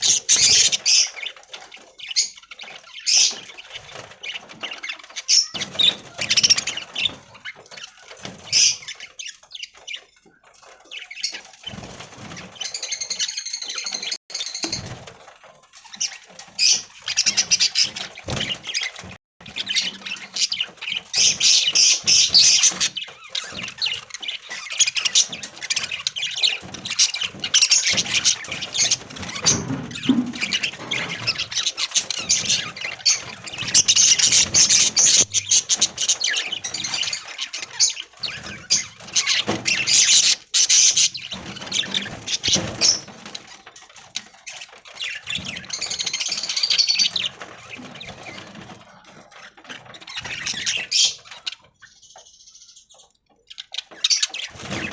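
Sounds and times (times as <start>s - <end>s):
budgerigars chattering and chirping: 0.0s - 15.0s, 15.9s - 48.7s, 49.3s - 54.9s.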